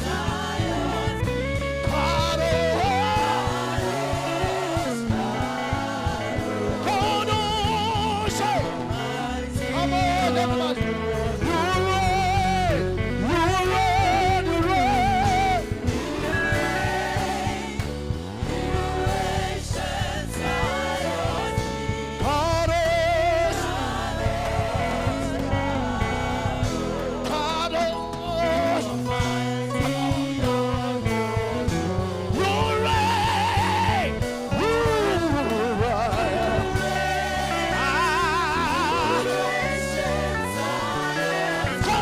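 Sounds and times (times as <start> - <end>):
instrumental backing: 0.0 - 42.0.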